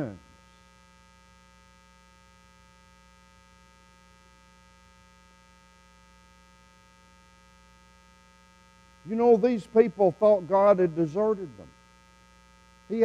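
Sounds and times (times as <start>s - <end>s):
faint electrical mains hum: 0.0s - 13.0s.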